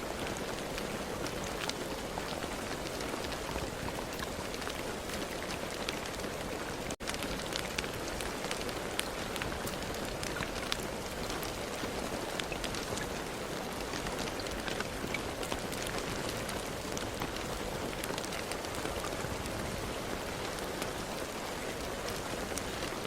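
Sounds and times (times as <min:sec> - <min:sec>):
raindrops ticking: 0:00.0 - 0:23.0.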